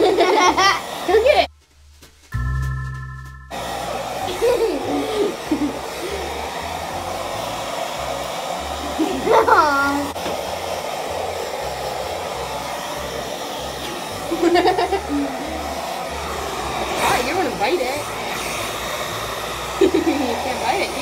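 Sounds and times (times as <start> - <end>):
blow-dryer running: 0.0 - 1.5, 3.5 - 21.0.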